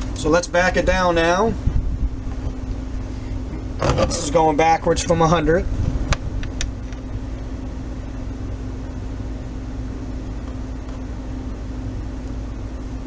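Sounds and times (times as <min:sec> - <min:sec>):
cooling fan humming: 0:00.0 - 0:13.0.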